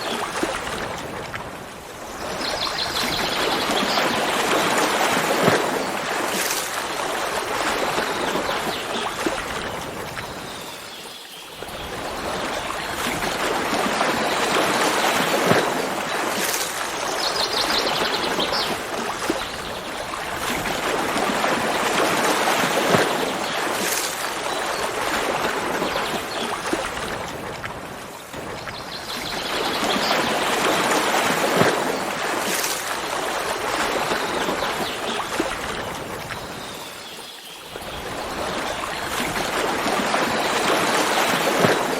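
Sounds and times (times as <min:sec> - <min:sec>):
stream water running and splashing: 0:00.0 - 0:41.9.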